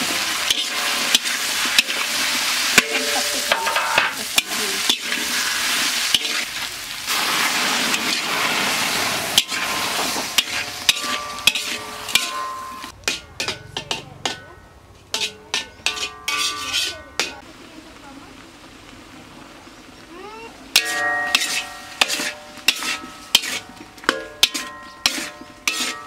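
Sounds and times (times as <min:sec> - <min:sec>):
food sizzling in a wok: 0:00.0 - 0:13.9, 0:15.1 - 0:26.0
metal spatula scraping a wok: 0:00.0 - 0:17.4, 0:20.8 - 0:26.0.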